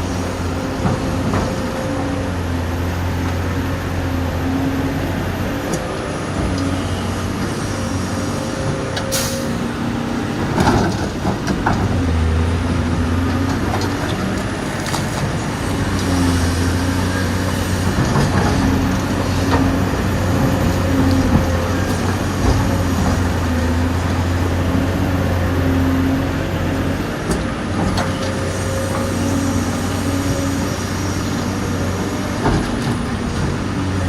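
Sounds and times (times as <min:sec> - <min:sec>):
diesel excavator engine droning: 0:00.0 - 0:34.0.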